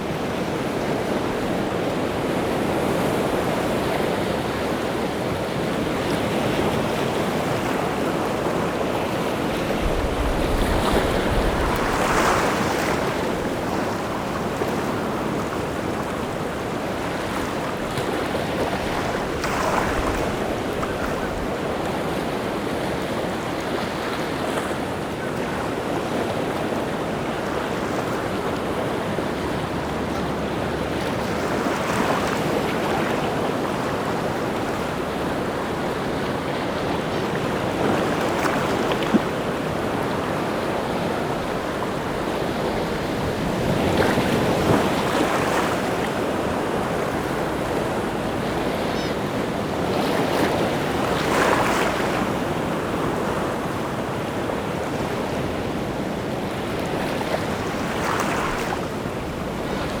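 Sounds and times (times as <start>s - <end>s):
sea waves breaking: 0.0s - 60.0s.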